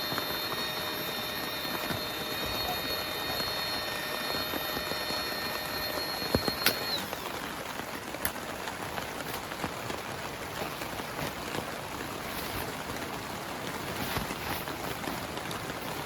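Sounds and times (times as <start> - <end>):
heavy rain on a tent: 0.0 - 16.0.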